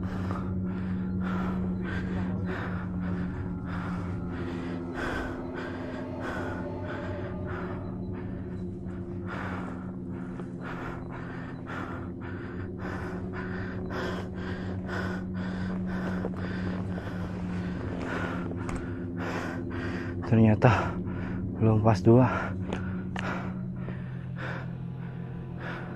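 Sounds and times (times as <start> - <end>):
droning background music: 0.0 - 25.9
heavy rhythmic breathing: 0.0 - 25.9.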